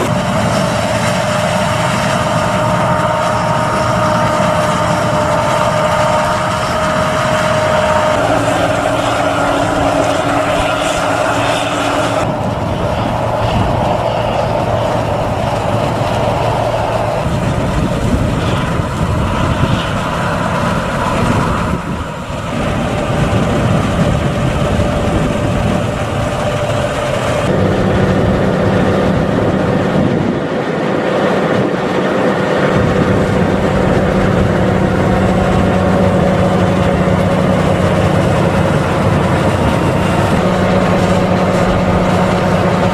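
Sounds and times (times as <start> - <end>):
heavy farm machinery engine drone: 0.0 - 42.9.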